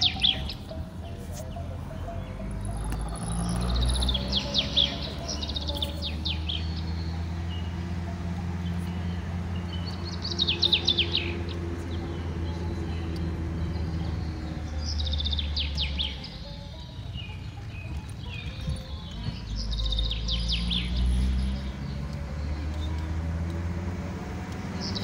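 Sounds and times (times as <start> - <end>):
songbird singing falling chirps: 0.0 - 25.0.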